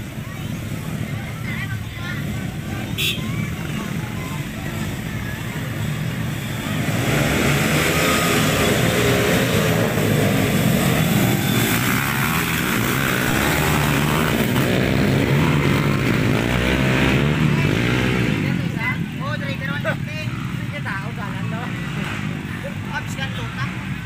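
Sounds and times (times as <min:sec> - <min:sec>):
motorcycle engines racing: 0:00.0 - 0:24.0.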